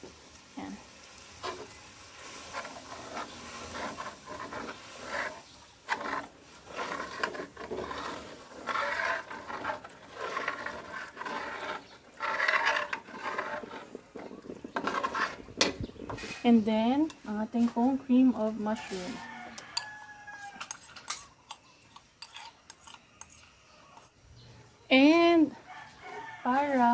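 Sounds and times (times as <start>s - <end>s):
metal spatula scraping a wok: 1.4s - 24.2s.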